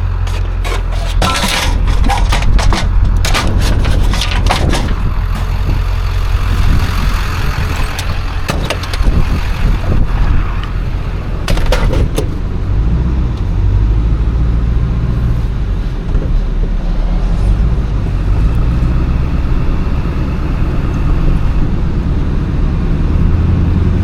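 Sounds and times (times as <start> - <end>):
road noise: 0.0 - 24.0
vehicle engine hum: 0.0 - 24.0.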